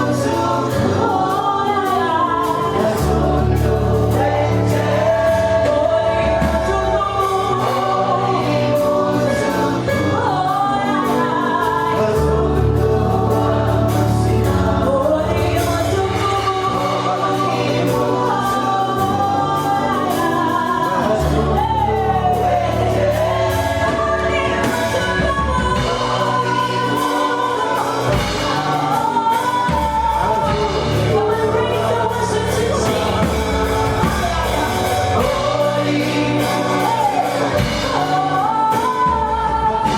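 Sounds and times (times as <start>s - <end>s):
band with steady bass line: 0.0s - 39.9s
gospel choir singing: 0.0s - 39.9s.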